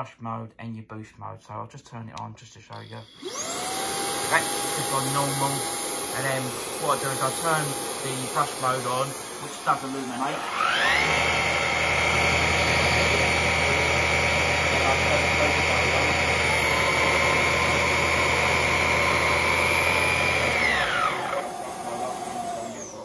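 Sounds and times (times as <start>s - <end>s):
motor winding down: 2.7s - 23.0s
vacuum cleaner motor whine: 2.8s - 23.0s.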